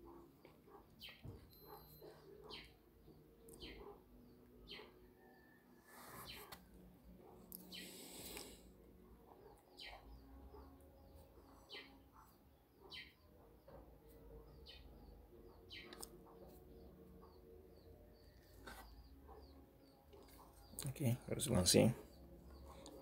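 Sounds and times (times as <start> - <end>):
faint bird chirps: 0.0 - 8.5, 9.2 - 23.0.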